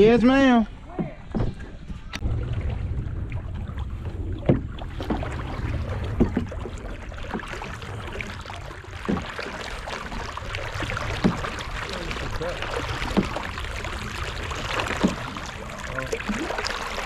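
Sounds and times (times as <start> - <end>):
paddle strokes in water: 0.8 - 17.0
steady low rumble: 1.7 - 17.0.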